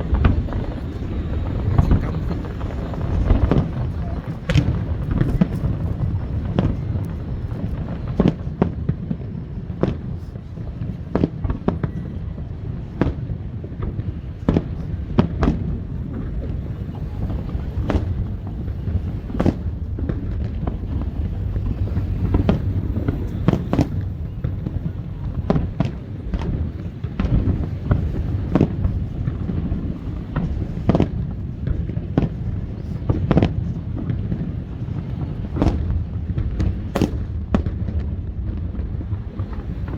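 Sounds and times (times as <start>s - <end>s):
low rumble: 0.0s - 11.0s, 13.8s - 39.9s
fireworks bursting bangs: 0.0s - 39.9s.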